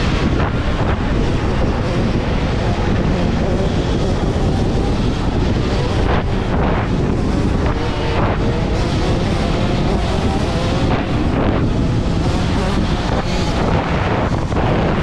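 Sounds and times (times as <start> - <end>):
electric dirt bike riding noise: 0.0 - 15.0
wind rush: 0.0 - 15.0.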